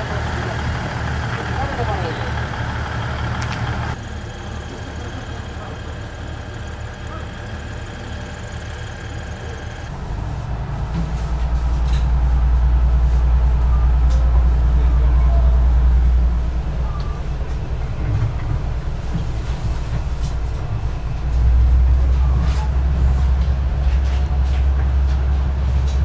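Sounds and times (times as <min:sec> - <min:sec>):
diesel railcar engine droning: 0:00.0 - 0:26.0.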